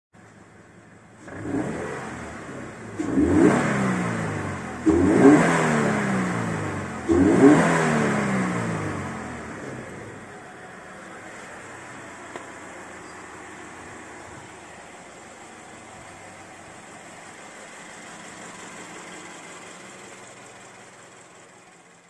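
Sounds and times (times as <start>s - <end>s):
car engine revving: 1.1s - 22.0s.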